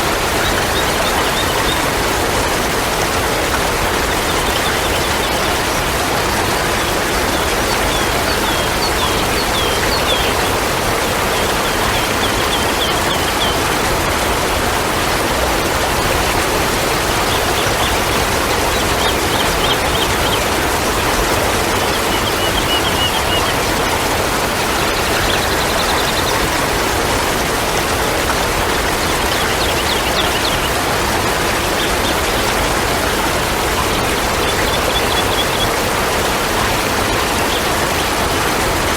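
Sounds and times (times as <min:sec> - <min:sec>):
small birds chirping: 0:00.0 - 0:14.2, 0:14.8 - 0:26.8, 0:28.3 - 0:38.7
water rushing: 0:00.0 - 0:38.9.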